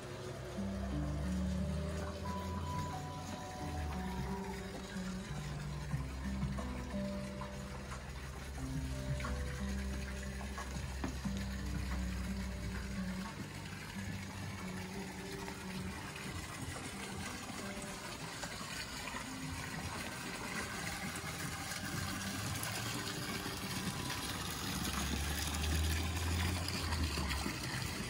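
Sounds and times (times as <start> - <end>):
water spilling over pool edge: 0.0 - 28.0.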